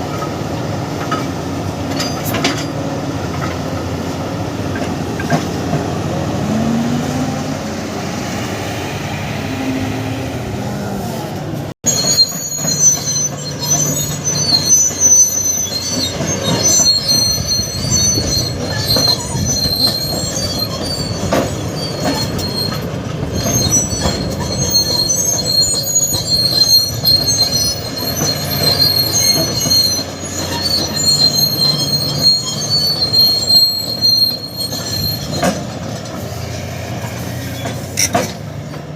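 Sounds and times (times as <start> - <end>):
excavator engine and hydraulics: 0.0 - 38.9.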